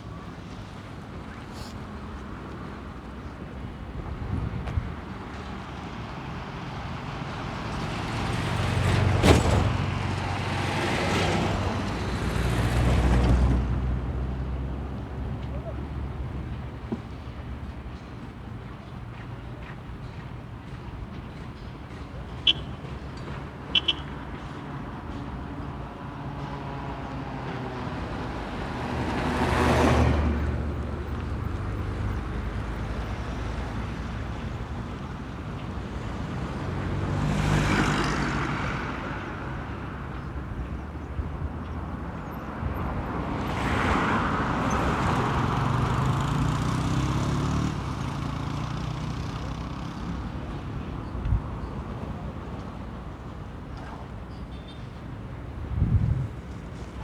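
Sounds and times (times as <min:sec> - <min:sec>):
traffic hum: 0:00.0 - 0:57.0
vehicles passing: 0:00.0 - 0:57.0.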